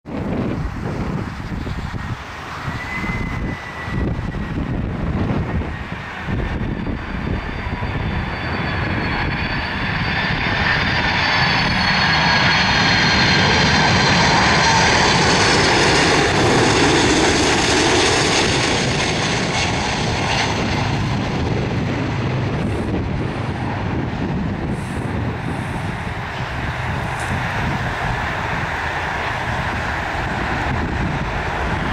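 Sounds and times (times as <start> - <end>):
jet engines roaring and whining: 0.0 - 31.9.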